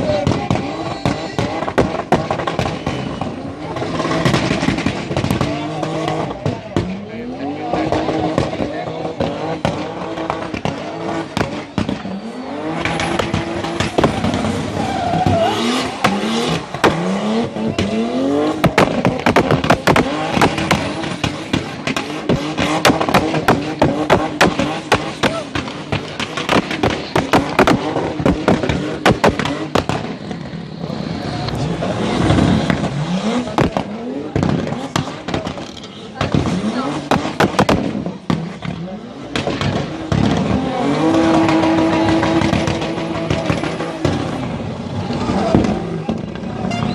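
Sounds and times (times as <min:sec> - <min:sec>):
car engine revving: 0:00.0 - 0:46.9
exhaust pops and bangs: 0:00.0 - 0:46.9.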